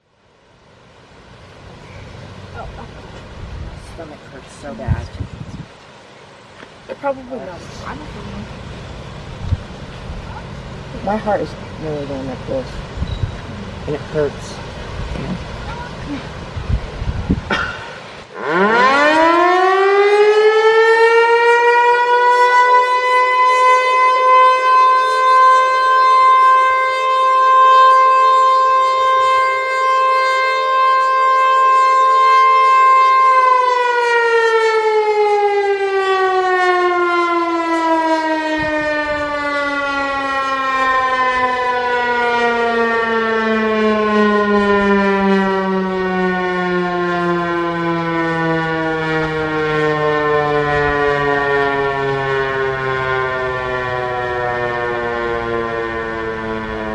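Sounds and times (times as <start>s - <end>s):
warning siren steady tone: 0.0s - 4.1s, 7.0s - 17.4s, 18.3s - 56.9s.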